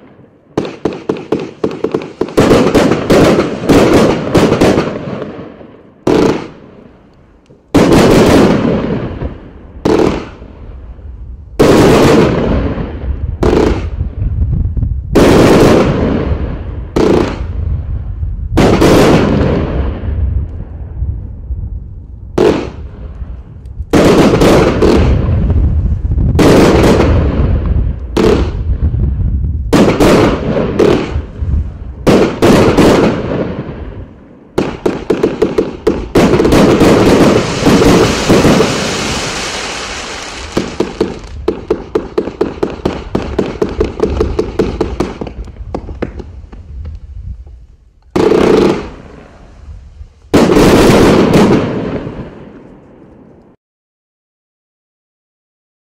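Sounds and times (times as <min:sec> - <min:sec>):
firework shots and bursts: 0:00.0 - 0:11.0, 0:11.6 - 0:20.9, 0:22.3 - 0:53.4.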